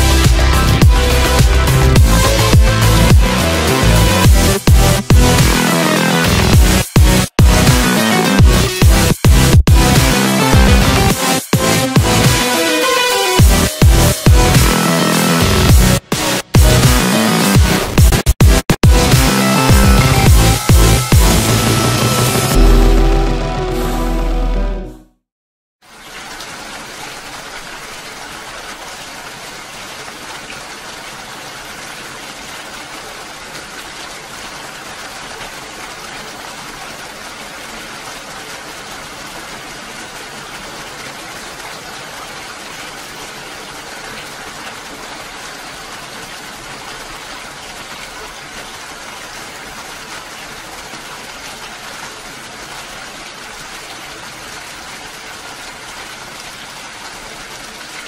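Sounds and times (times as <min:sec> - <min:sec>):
steady rain falling: 0:00.0 - 0:23.4, 0:25.8 - 0:58.0.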